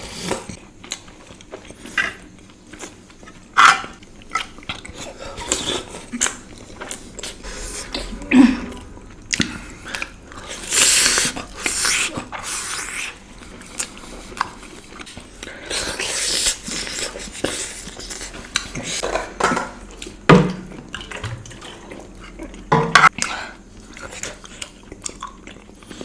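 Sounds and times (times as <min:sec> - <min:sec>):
eating sounds: 0:00.0 - 0:19.2, 0:19.8 - 0:26.0.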